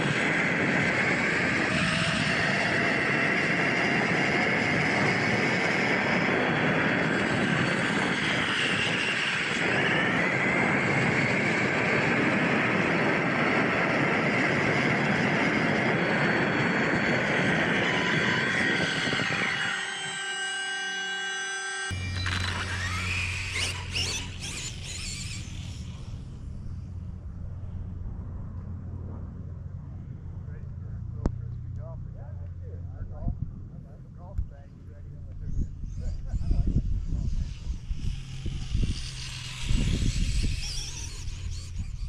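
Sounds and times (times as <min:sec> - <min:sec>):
electric motor whine: 0:00.0 - 0:31.6, 0:34.8 - 0:42.0.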